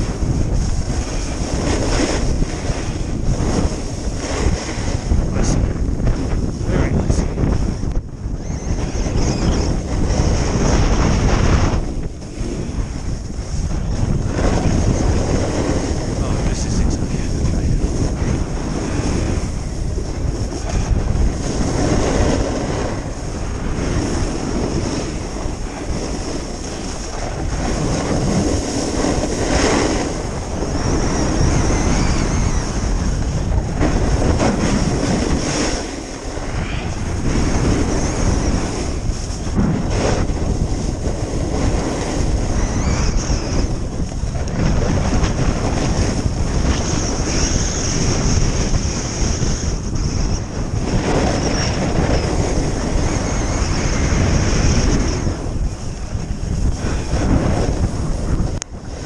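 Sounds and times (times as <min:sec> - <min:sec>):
skis scraping on snow: 0:00.0 - 0:07.7, 0:09.5 - 0:43.7, 0:44.6 - 0:59.0
wind buffeting microphone: 0:00.0 - 0:59.0.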